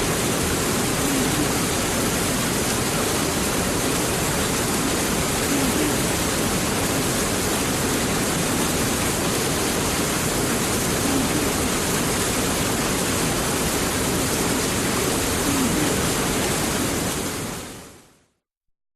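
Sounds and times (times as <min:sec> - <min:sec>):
steady rain: 0:00.0 - 0:18.4.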